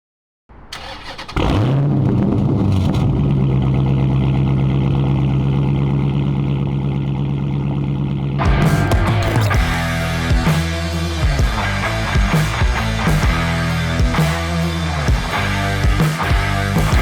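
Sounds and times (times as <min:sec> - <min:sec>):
car engine starting and idling: 0:00.6 - 0:17.0.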